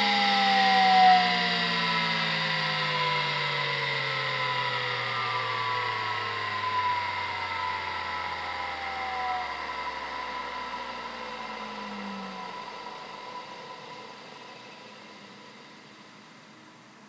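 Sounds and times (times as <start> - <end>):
hard drive whine spinning down: 0.0 - 17.0.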